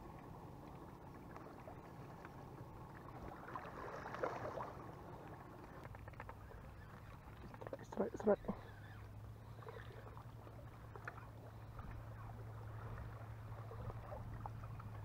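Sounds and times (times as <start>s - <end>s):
small waves lapping on rocks: 0.0s - 15.0s
water splashing: 0.0s - 15.0s.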